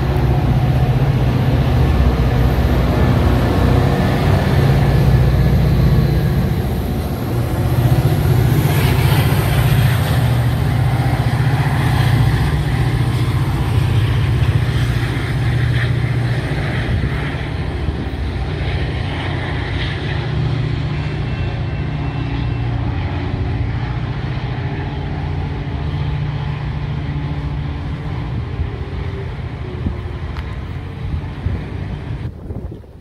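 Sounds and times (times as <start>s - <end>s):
diesel train rumbling past: 0.0s - 33.0s.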